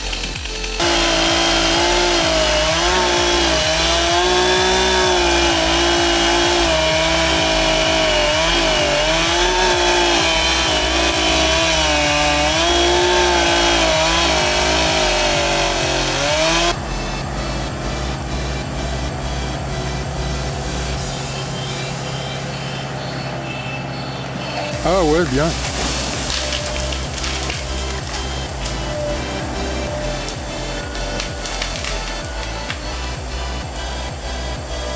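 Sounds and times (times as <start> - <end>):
chainsaw cutting tree: 0.0 - 21.0, 24.7 - 34.9
faint background music beat: 0.0 - 34.9.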